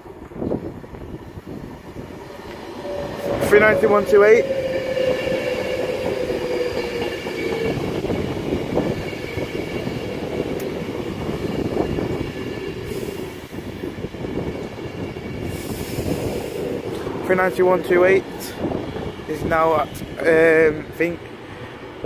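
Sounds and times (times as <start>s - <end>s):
electric train rumble and whine: 0.0s - 22.0s.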